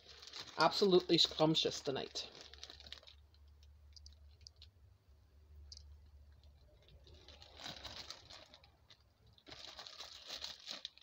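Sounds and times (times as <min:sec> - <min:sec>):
plastic bag crinkling: 0:00.0 - 0:04.8, 0:05.7 - 0:11.0
low steady hum: 0:00.0 - 0:11.0.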